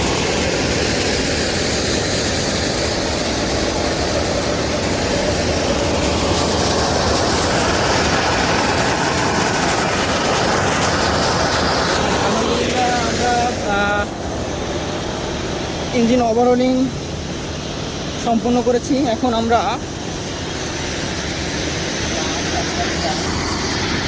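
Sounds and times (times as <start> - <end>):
fire pump engine running: 0.0 - 24.0
water gushing from hydrant: 0.0 - 24.0.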